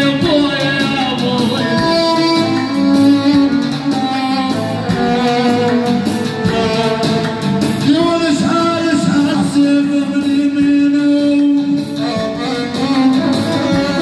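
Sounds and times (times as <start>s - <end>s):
electronic keyboard melody: 0.0s - 14.0s.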